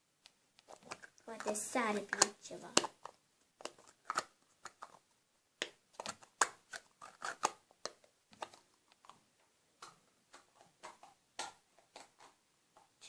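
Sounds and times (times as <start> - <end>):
plastic lid clicking and scraping: 0.6 - 5.0, 5.6 - 9.2, 9.8 - 13.0.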